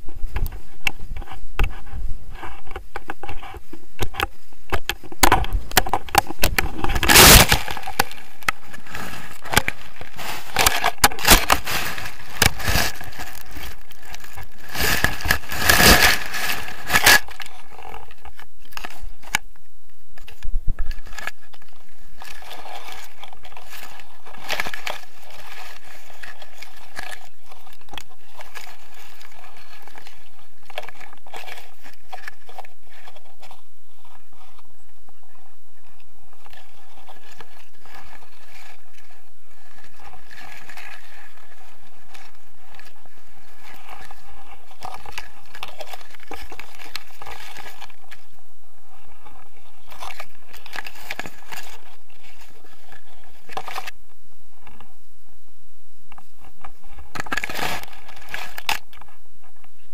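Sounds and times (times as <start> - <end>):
rustling through tall grass: 0.0 - 55.5.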